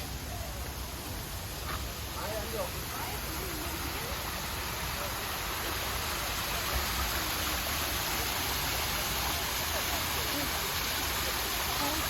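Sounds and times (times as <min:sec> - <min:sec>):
faint voices: 0:00.0 - 0:12.0
running water rushing: 0:00.0 - 0:12.0.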